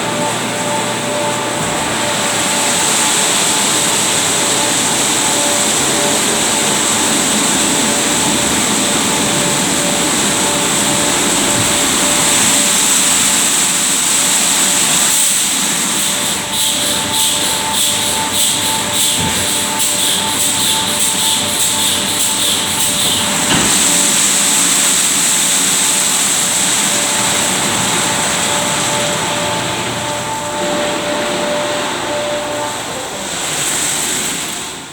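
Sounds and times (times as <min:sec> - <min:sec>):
motor whine: 0:00.0 - 0:34.9.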